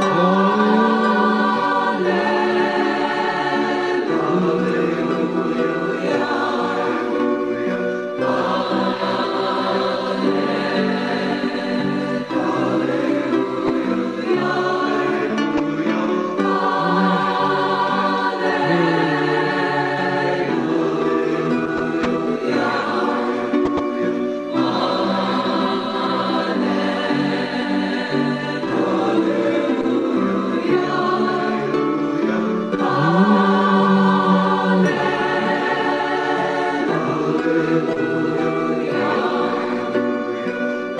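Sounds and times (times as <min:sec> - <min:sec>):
choir singing held chords: 0:00.0 - 0:40.9.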